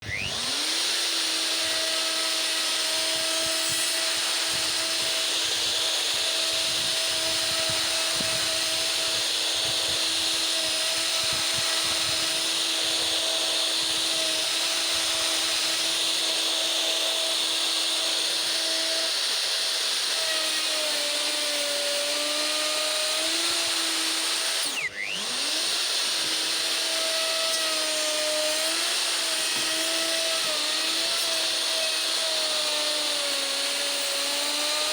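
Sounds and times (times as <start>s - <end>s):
router whining: 0.0s - 34.9s.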